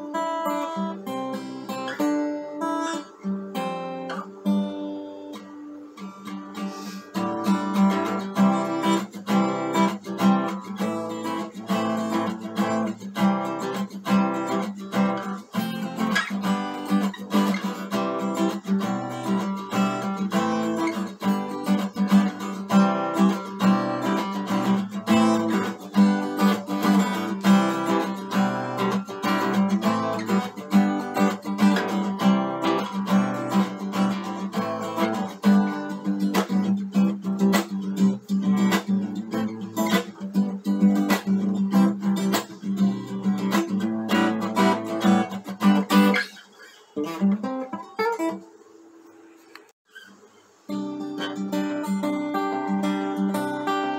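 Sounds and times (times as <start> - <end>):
acoustic guitar strumming chords: 0.0 - 53.9.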